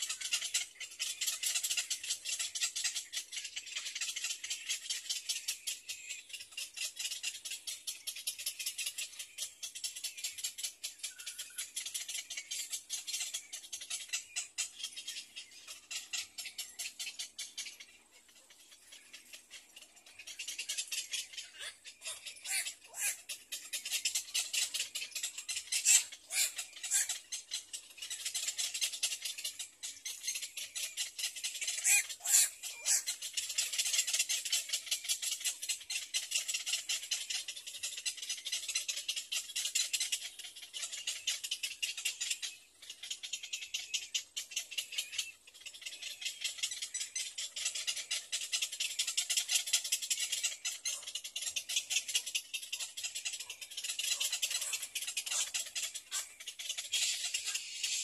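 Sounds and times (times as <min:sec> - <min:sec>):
chicks rattling clicking chatter: 0:00.0 - 0:58.0.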